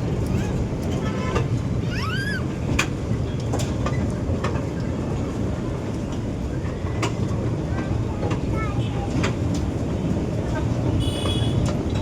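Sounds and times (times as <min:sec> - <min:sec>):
ride-on train rumbling: 0:00.0 - 0:12.0
wheels clicking on track: 0:00.0 - 0:12.0.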